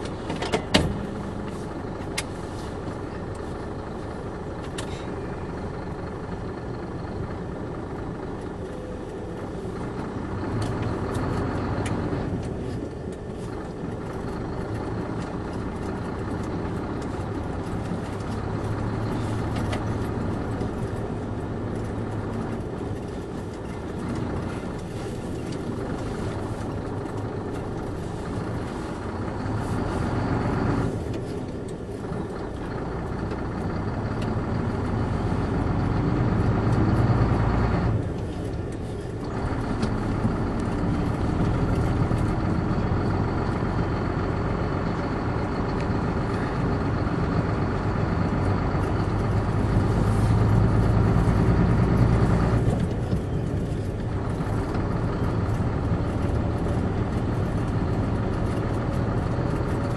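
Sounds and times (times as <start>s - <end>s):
vehicle driving on snowy road: 0.0s - 59.9s.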